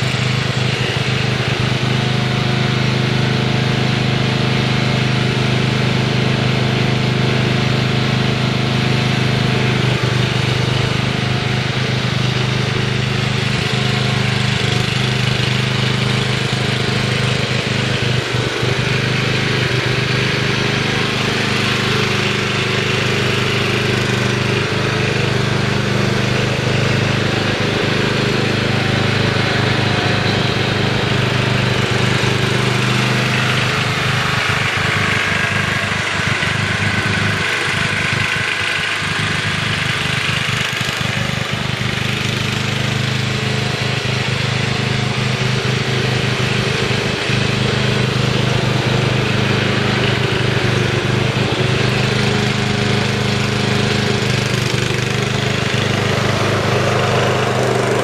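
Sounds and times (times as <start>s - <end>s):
riding lawn mower engine: 0.0s - 58.0s.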